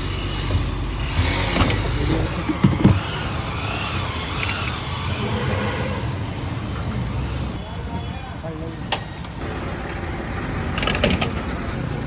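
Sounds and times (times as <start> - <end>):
farm machine engine running: 0.0 - 7.8, 9.2 - 12.0.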